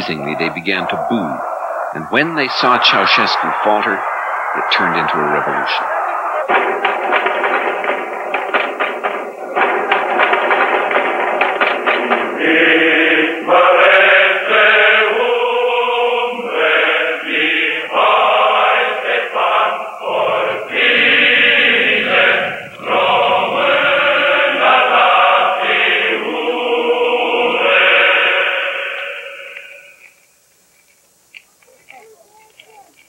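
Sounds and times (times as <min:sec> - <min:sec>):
choir chanting: 0:00.0 - 0:30.1.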